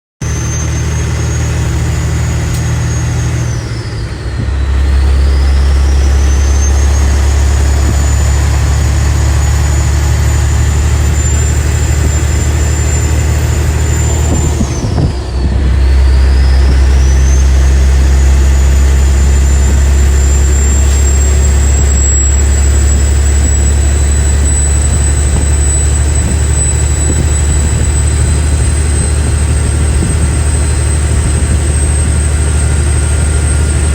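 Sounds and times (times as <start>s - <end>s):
high turbo whistle: 0.2s - 33.9s
truck diesel engine under load: 0.2s - 33.9s.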